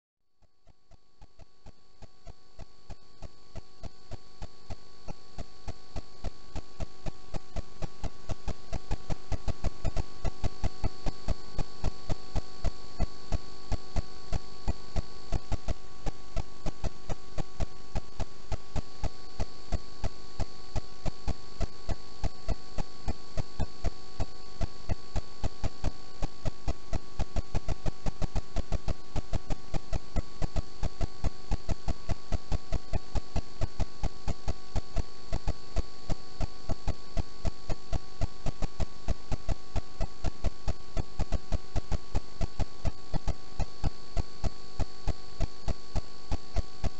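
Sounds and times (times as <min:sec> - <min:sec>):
electrical hum: 0:00.4 - 0:46.9.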